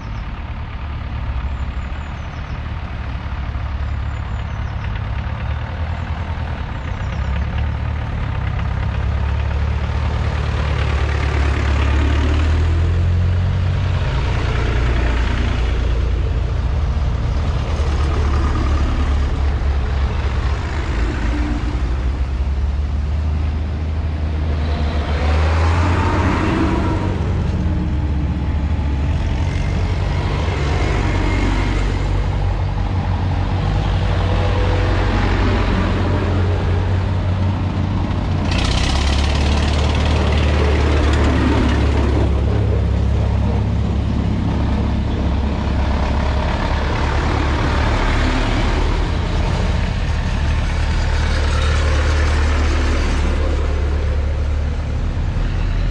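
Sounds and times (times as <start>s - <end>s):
tractor engines driving past: 0.0s - 55.9s.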